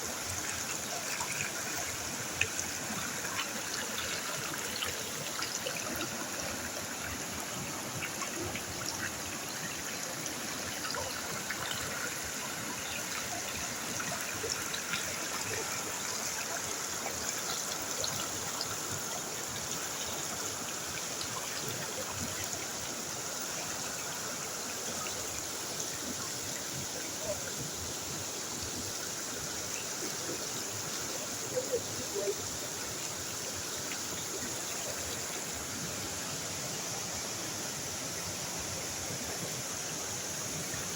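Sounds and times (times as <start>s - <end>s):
small stream trickling: 0.0s - 40.9s.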